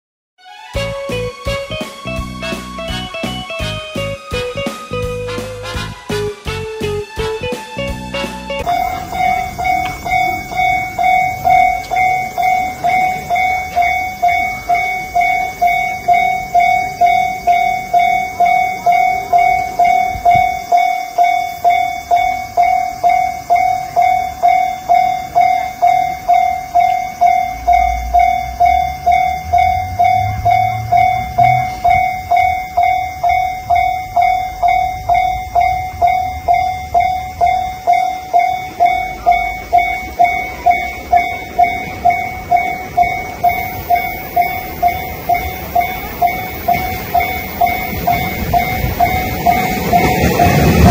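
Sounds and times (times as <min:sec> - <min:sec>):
level crossing warning bell: 0:01.6 - 0:06.1, 0:07.4 - 0:50.9.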